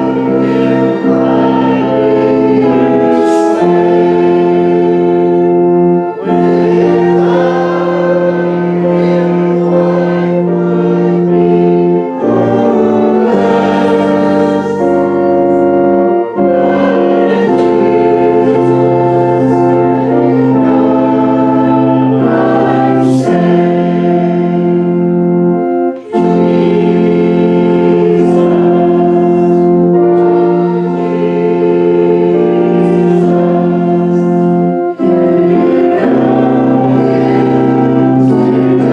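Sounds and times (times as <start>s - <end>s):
choir singing: 0.0s - 38.9s
organ chords: 0.0s - 38.9s.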